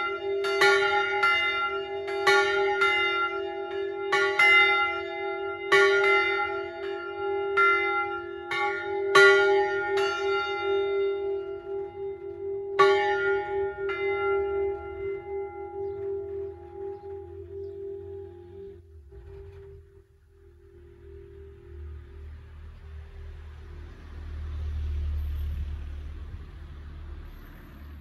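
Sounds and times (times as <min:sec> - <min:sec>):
bells humming: 0:00.0 - 0:28.0
church bells ringing: 0:00.0 - 0:28.0.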